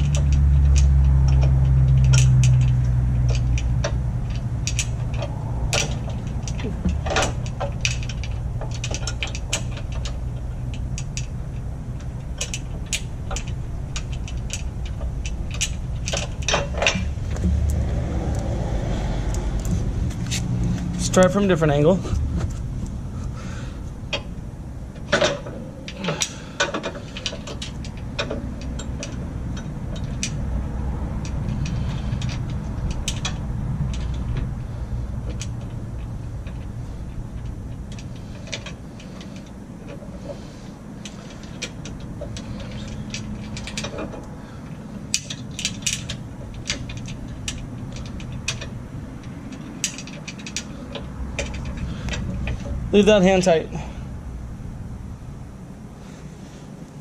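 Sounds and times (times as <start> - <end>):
low background rumble: 0.0 - 57.0.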